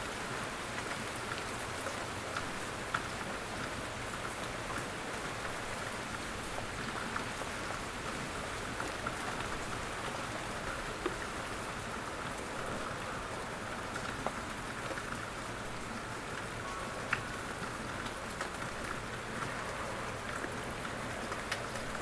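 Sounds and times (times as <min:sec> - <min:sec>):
raindrops pattering on a surface: 0:00.0 - 0:22.0
steady rain hiss: 0:00.0 - 0:22.0.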